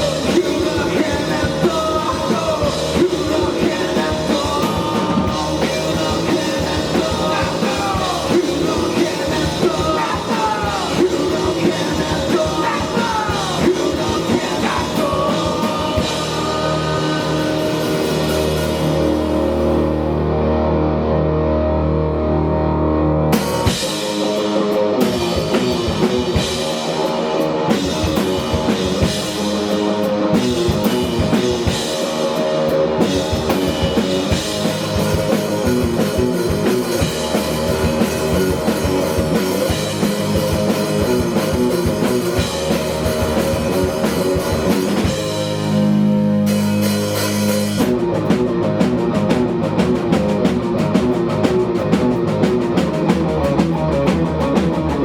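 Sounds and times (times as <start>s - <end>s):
driving drums: 0.0s - 55.0s
live rock band playing: 0.0s - 55.0s.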